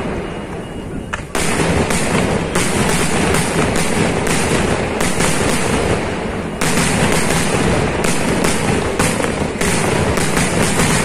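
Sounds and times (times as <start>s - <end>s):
fireworks banging and cracking: 0.0s - 11.0s.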